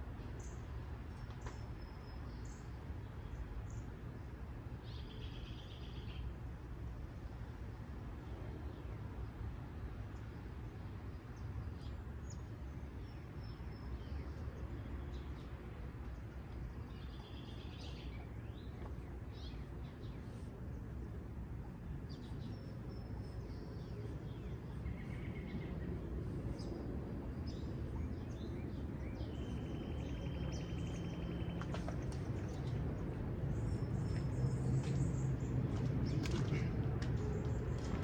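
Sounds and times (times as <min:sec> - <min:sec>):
low airplane rumble: 0:00.0 - 0:38.0
songbirds chirping: 0:00.0 - 0:38.0.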